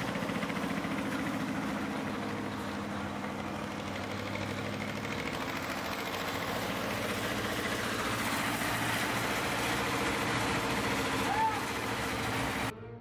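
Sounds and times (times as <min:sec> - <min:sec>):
engine idling: 0:00.0 - 0:12.7.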